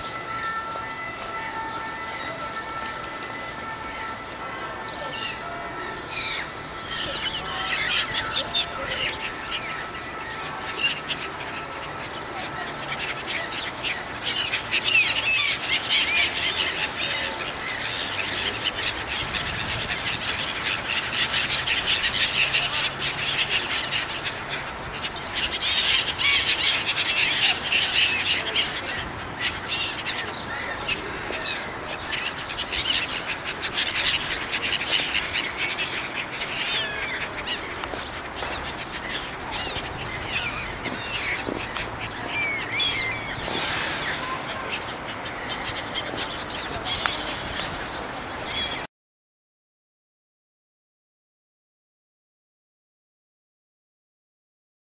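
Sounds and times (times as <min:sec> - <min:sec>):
gulls squealing: 0:02.4 - 0:48.8.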